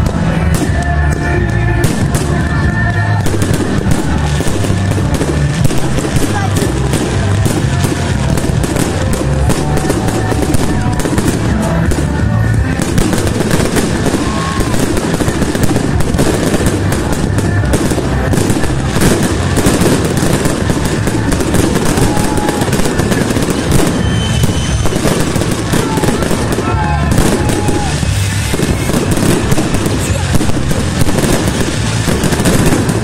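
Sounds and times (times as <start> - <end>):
fireworks bangs and crackles: 0.0 - 33.0
music playing: 0.0 - 33.0.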